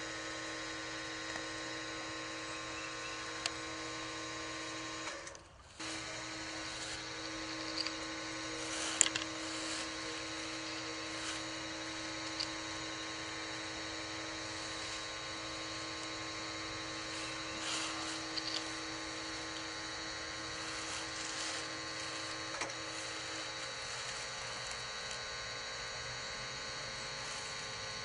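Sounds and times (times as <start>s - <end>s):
pipe-pulling machine humming: 0.0s - 28.0s.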